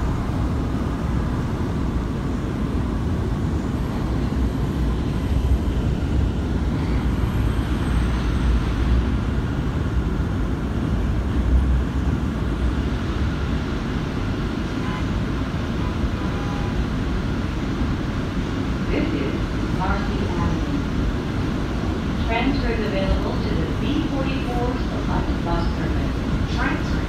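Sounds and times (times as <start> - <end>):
subway train rumbling on track: 0.0 - 27.0.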